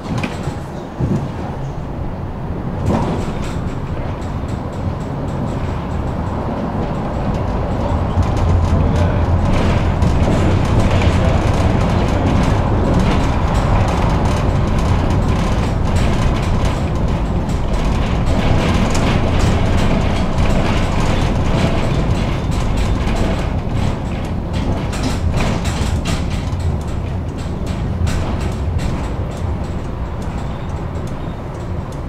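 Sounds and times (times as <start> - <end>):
tram rumbling along track: 0.0 - 32.0
wheels clicking on rails: 0.0 - 32.0.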